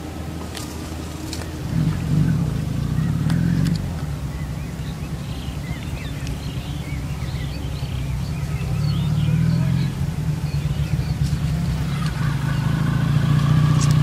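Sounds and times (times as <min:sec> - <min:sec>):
engine humming: 0:00.0 - 0:14.0
small birds chirping: 0:00.0 - 0:14.0.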